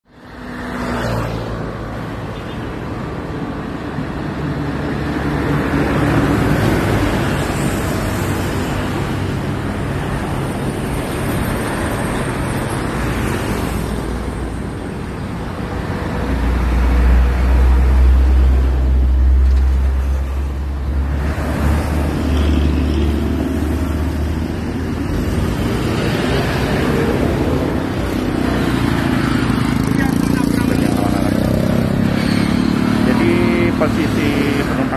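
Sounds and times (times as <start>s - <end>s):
road traffic passing: 0.0s - 34.9s
motorcycles passing: 0.2s - 34.9s.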